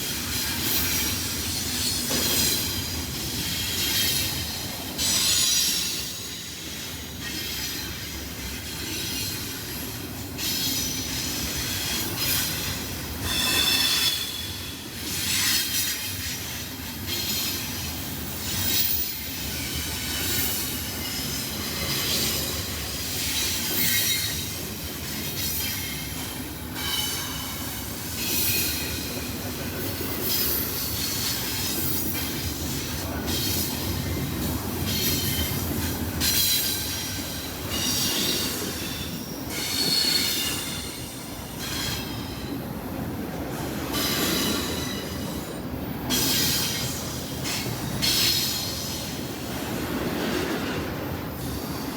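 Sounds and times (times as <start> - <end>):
freight train cars rumbling: 0.0 - 51.9.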